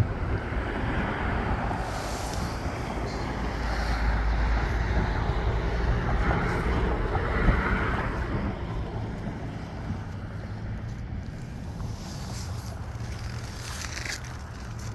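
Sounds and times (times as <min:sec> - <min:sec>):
wind blowing across microphone: 0:00.0 - 0:14.9.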